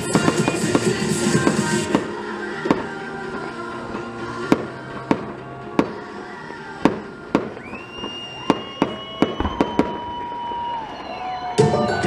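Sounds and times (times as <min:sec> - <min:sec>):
fireworks bangs: 0:00.0 - 0:03.5, 0:04.4 - 0:12.0.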